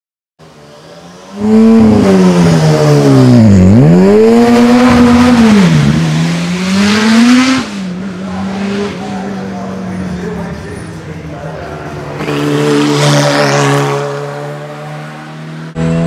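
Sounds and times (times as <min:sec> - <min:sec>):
racing car engine revving: 0:01.1 - 0:16.0.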